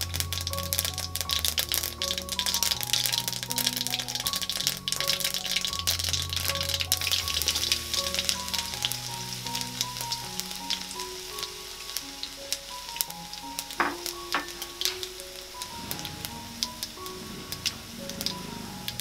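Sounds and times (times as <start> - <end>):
garlic sizzling in hot oil: 0.0 - 19.0
soft background music: 0.0 - 19.0.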